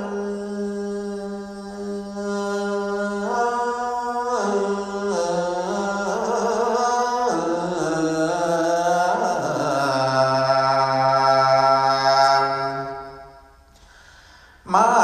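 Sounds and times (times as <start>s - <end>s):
man chanting: 0.0s - 13.3s, 14.6s - 15.0s.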